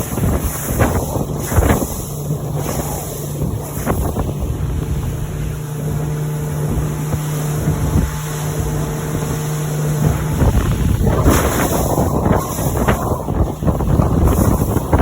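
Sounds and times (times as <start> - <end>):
outboard motor humming: 0.0 - 15.0
rush of wind and water: 0.0 - 15.0
wind buffeting microphone: 0.0 - 15.0.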